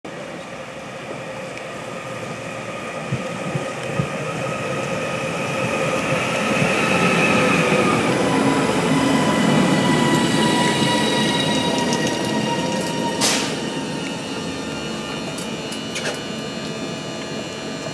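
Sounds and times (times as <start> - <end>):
electric train pulling in: 0.1 - 17.9
high multi-tone whine: 0.1 - 17.9.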